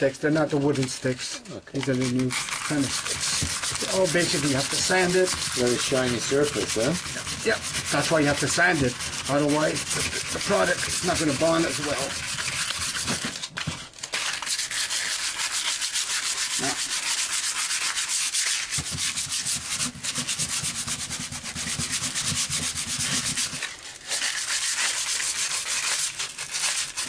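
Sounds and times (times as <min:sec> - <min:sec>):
sandpaper scratching: 0:00.0 - 0:27.0.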